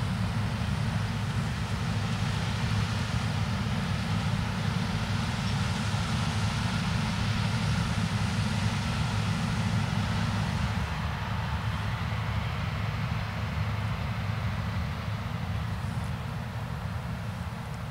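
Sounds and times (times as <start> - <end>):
combine harvester droning: 0.0 - 17.9.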